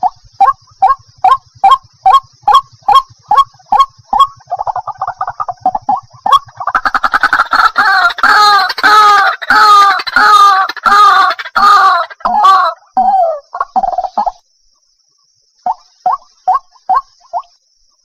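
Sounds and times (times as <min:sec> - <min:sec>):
waterhen calling: 0:00.0 - 0:14.4, 0:15.6 - 0:17.6.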